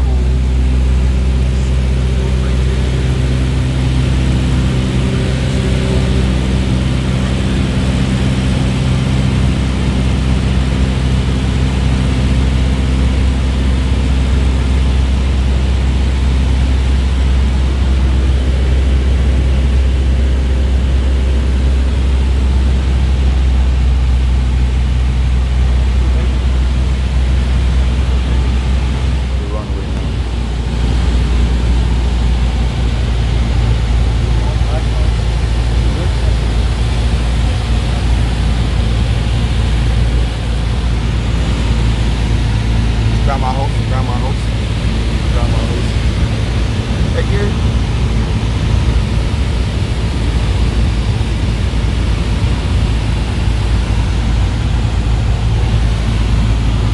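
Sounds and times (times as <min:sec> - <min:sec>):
engine humming: 0:00.0 - 0:56.9
heavy low rumble: 0:00.0 - 0:56.9.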